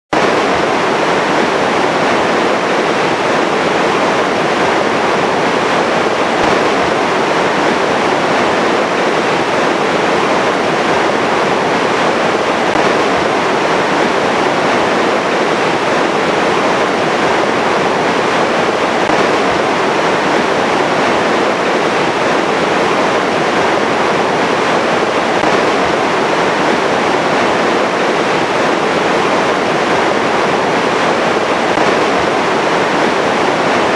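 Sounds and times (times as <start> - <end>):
water rushing over weir: 0.1 - 33.9.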